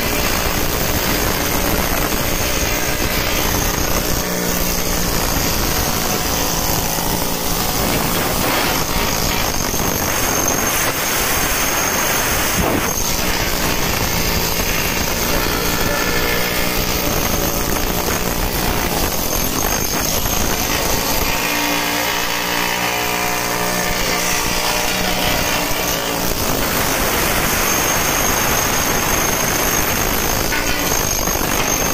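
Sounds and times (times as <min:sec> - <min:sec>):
loud machinery din: 0:00.0 - 0:31.9.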